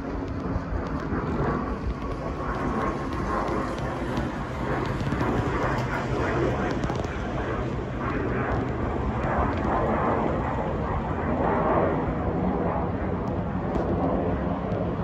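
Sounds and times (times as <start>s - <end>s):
jet passing overhead: 0.0s - 15.0s.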